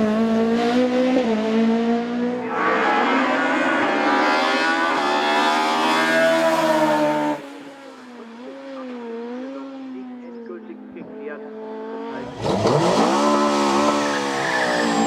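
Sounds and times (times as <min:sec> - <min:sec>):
racing car engine at full throttle: 0:00.0 - 0:15.0.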